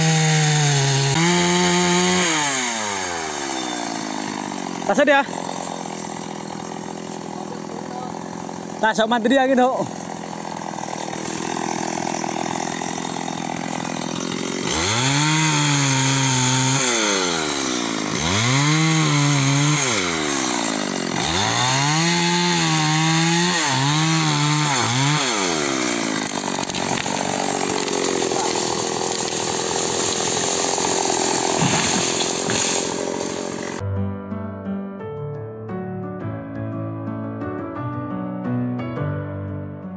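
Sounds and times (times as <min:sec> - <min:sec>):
chainsaw cutting wood: 0:00.0 - 0:33.8.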